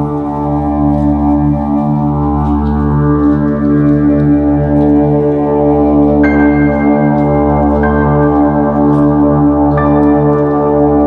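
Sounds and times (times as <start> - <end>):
ambient music drone chords: 0.0 - 11.0.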